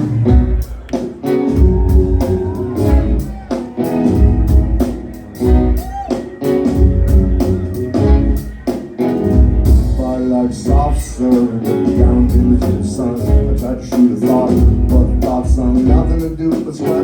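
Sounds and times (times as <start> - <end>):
live band playing: 0.0 - 17.0
steady drum beat: 0.0 - 17.0.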